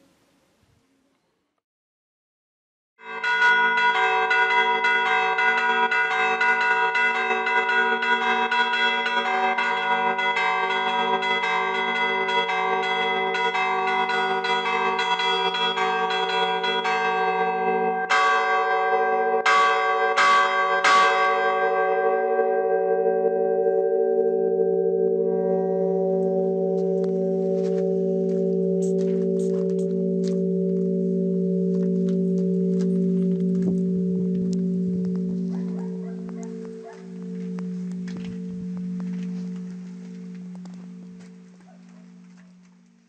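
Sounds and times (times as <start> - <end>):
church bells ringing: 3.0 - 43.0
heavy bell strikes: 3.0 - 43.0.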